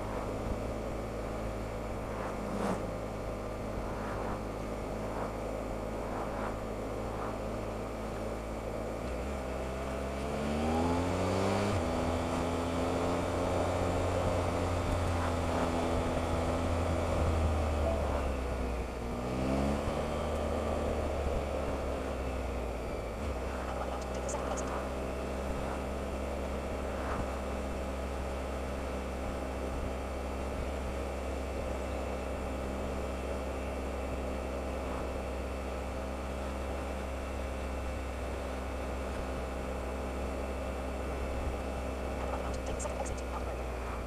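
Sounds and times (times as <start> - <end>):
motorcycle engine: 0.0 - 44.0
wind and road noise: 0.0 - 44.0.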